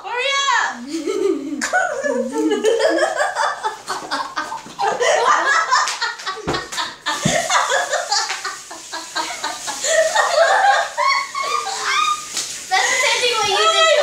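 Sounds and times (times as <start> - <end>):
children laughing and talking: 0.7 - 14.0.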